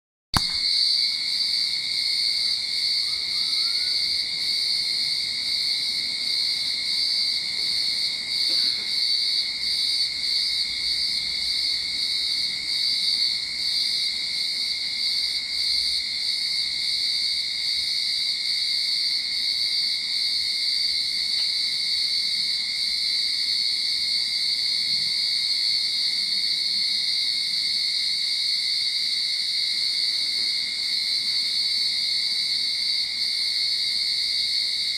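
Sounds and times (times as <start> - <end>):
cicadas singing in chorus: 0.4 - 34.9.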